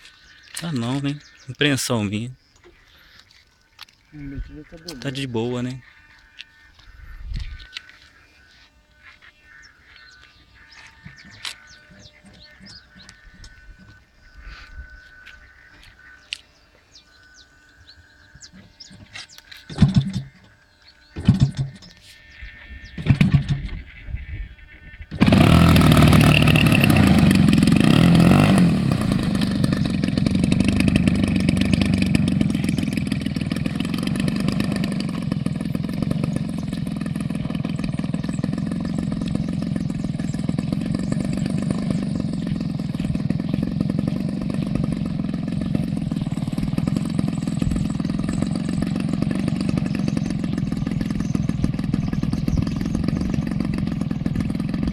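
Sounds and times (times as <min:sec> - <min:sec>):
engine running: 0:03.8 - 0:24.0, 0:25.0 - 0:54.9.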